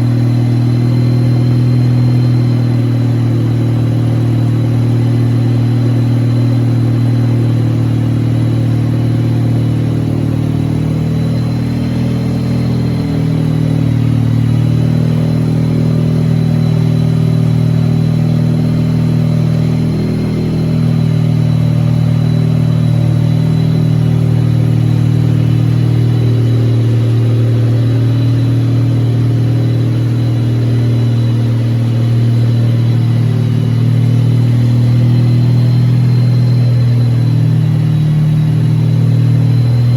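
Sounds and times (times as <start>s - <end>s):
faint high whine: 0.0s - 39.9s
rotary engine running: 0.0s - 39.9s.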